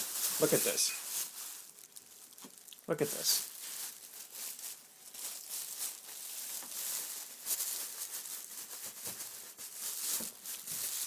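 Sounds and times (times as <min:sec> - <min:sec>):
crinkling and rustling packaging: 0:00.0 - 0:11.0.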